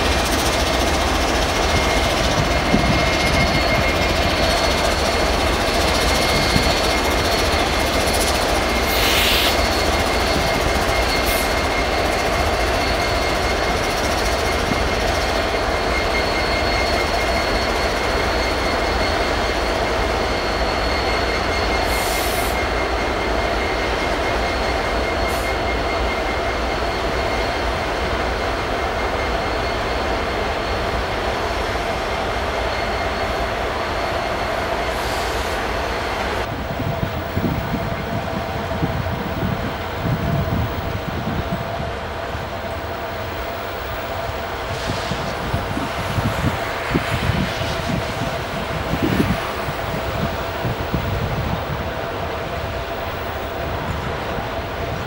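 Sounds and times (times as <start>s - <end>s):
freight train rumbling over rails: 0.0s - 55.0s
high-pitched whine: 0.0s - 55.0s.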